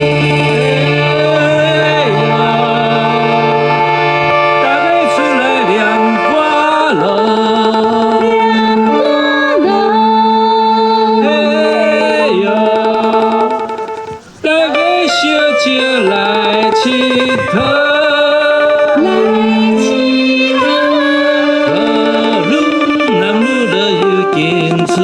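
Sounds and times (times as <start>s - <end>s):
ocarina ensemble playing: 0.0s - 25.0s.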